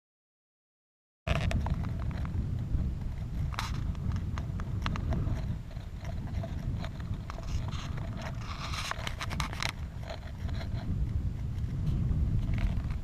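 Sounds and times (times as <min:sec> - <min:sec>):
wind rumble on microphone: 0:01.3 - 0:13.0.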